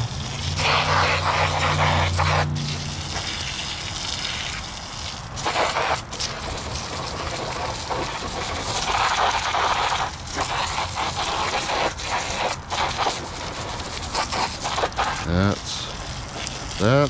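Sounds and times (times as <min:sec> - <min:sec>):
hose water spraying: 0:00.0 - 0:17.0.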